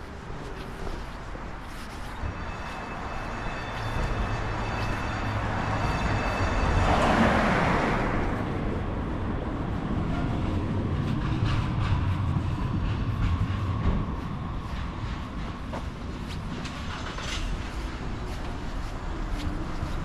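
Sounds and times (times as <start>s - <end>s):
heavy vehicle passing: 2.8s - 20.0s.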